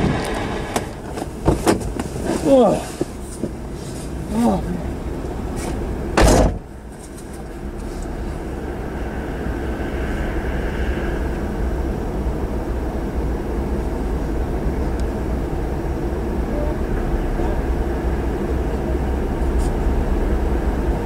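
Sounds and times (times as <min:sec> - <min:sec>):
diesel freight train rumble: 0:00.0 - 0:21.0.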